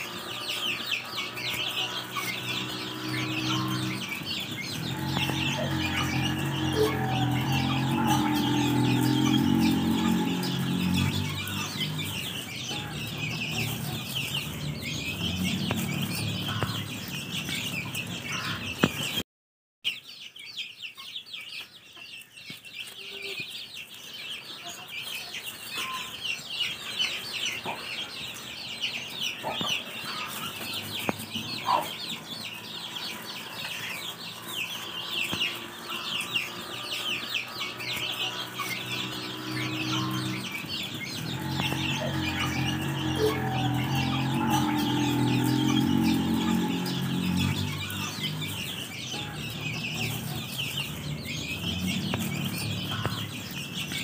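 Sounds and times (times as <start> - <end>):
hen clucking: 0.0 - 19.0, 29.3 - 54.0
chicks peeping: 0.0 - 19.2, 19.9 - 54.0.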